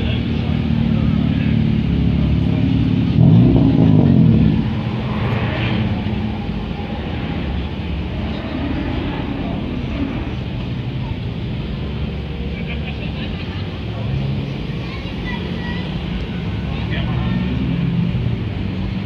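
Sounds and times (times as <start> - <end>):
car engine revving: 0.0 - 19.0
cars rolling past: 0.0 - 19.0.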